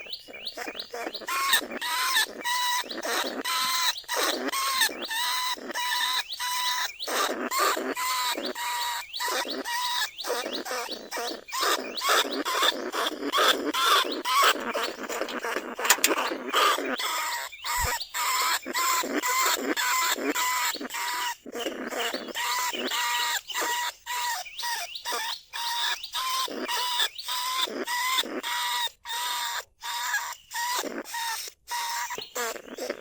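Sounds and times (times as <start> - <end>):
rats squealing and chattering: 0.0 - 33.0.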